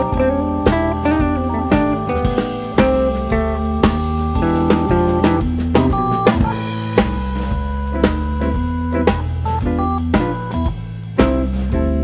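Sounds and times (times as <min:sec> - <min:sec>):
guitar bass and drums music: 0:00.0 - 0:12.0.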